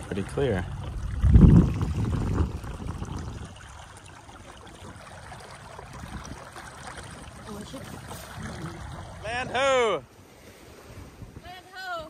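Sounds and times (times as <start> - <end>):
water rushing along a hull: 0.0 - 12.0.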